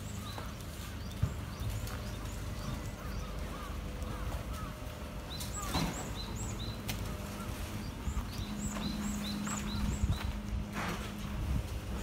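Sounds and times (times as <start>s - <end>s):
songbird chirping: 0.0s - 10.7s.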